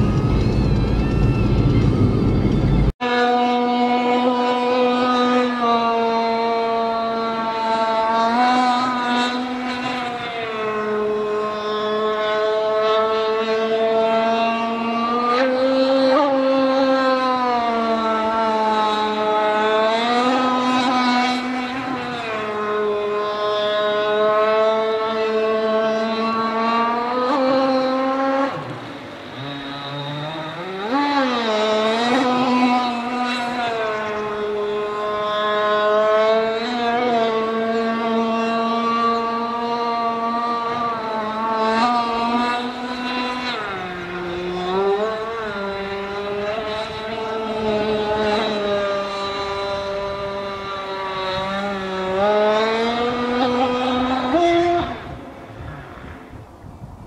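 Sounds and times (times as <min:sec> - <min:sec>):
model boat engine at high revs: 0:02.9 - 0:56.4.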